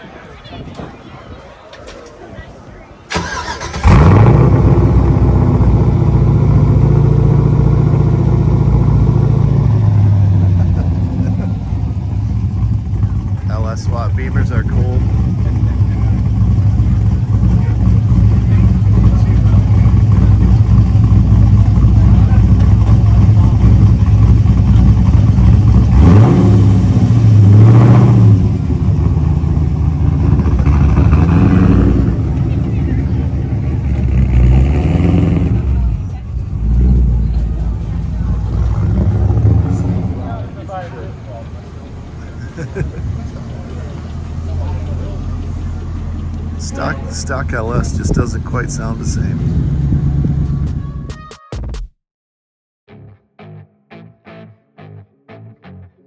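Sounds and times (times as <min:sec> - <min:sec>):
car engine idling loudly: 0:03.2 - 0:51.0.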